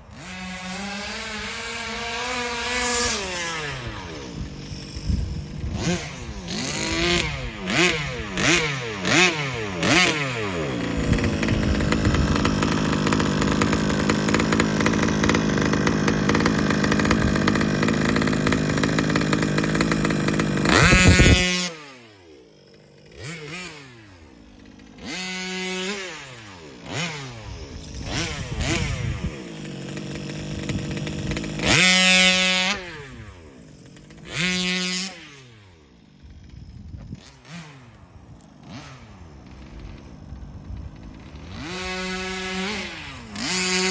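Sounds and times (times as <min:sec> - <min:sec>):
small two-stroke engine revving: 0:00.0 - 0:43.9.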